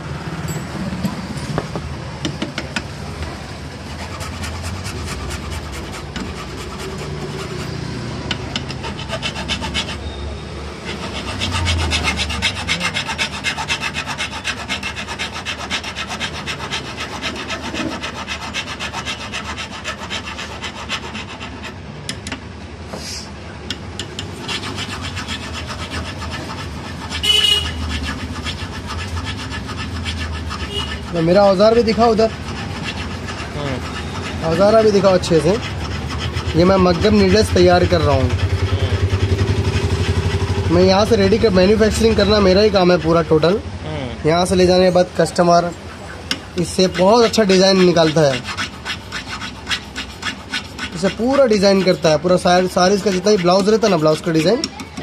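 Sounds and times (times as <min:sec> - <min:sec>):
metal file rasping: 0:03.8 - 0:10.2, 0:10.8 - 0:21.8, 0:24.0 - 0:43.6, 0:44.4 - 0:55.0.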